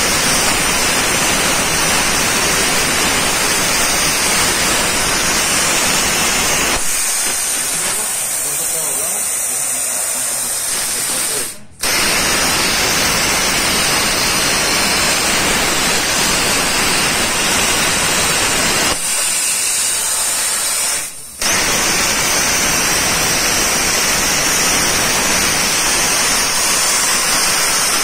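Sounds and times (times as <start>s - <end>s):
plasma cutter hissing: 0.0s - 28.0s.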